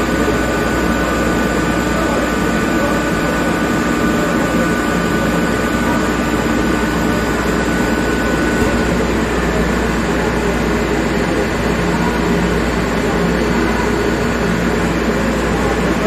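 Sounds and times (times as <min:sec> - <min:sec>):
air compressor droning: 0:00.0 - 0:16.0
cooling fan: 0:00.0 - 0:16.0
steady whining tones: 0:00.0 - 0:16.0.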